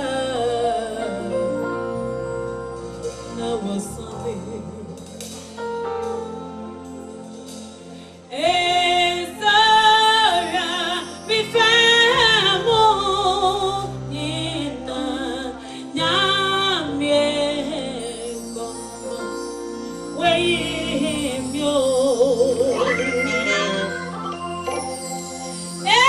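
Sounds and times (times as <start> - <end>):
woman singing with vibrato: 0.0 - 1.9, 3.3 - 5.1, 8.3 - 26.0
gospel band accompaniment: 0.0 - 26.0.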